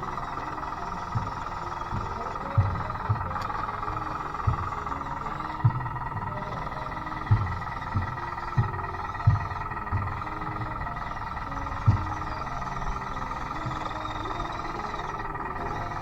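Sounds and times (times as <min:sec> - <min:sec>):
toy electric motors whining: 0:00.0 - 0:16.0.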